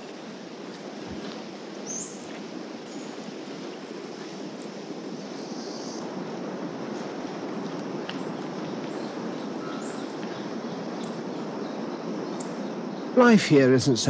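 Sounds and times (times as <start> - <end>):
sea surf: 0.0 - 14.0
wind: 0.0 - 14.0.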